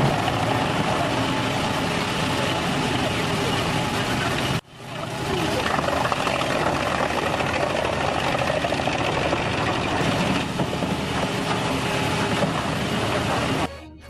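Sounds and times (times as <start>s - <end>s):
wood chipper running: 0.0s - 13.7s.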